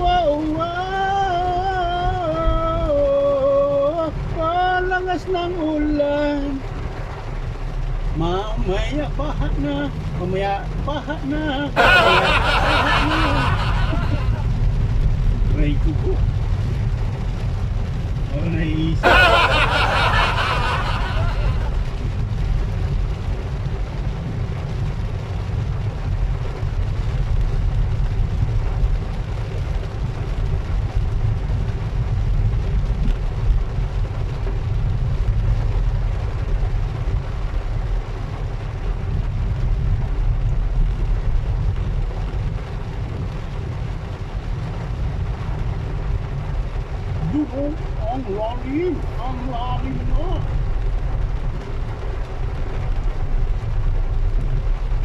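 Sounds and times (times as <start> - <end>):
constant low rumble: 0.0 - 55.0
heavy rain rushing: 0.0 - 55.0.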